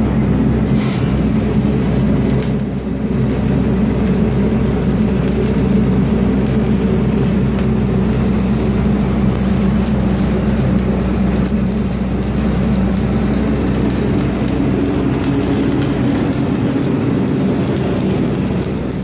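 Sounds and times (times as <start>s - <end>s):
welder engine running: 0.0s - 19.0s
welding arc crackling: 0.0s - 19.0s.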